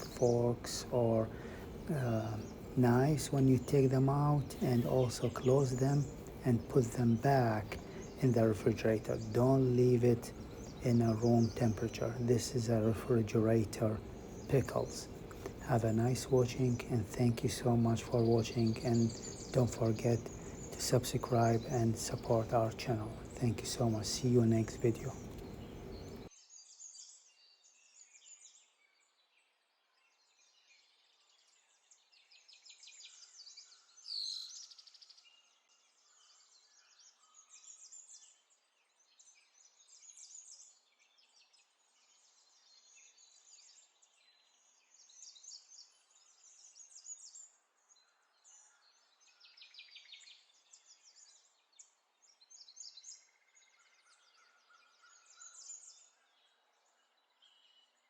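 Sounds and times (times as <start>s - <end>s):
faint birds chirping and trilling: 0.0s - 58.0s.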